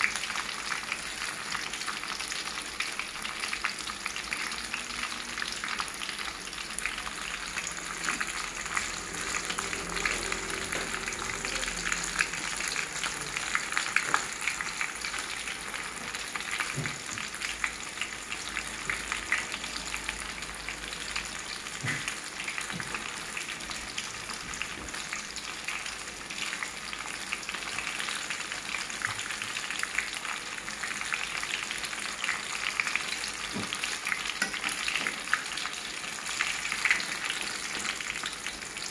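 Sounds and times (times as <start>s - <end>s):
fritters sizzling in hot oil: 0.0s - 38.9s.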